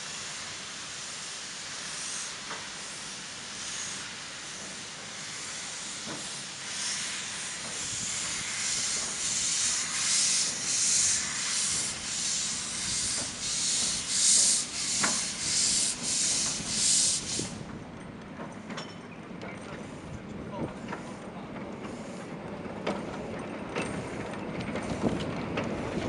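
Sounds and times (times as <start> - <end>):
steam locomotive hissing: 0.0 - 17.8, 19.6 - 26.0.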